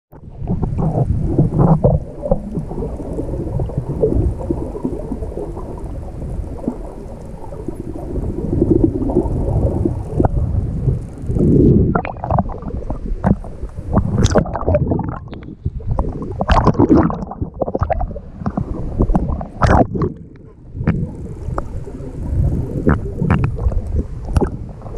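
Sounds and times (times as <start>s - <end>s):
underwater rumbling and gurgling: 0.1s - 24.9s
water splashing and sloshing: 0.2s - 24.9s.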